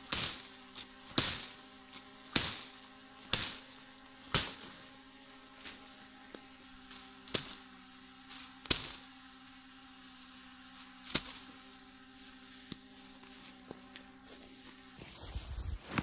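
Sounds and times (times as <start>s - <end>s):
machete chopping branches: 0.0s - 14.4s
steady buzzing hum: 0.0s - 16.0s.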